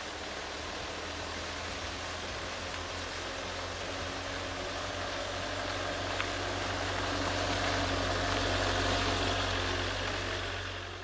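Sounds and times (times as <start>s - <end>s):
motorhome driving past: 0.0s - 11.0s.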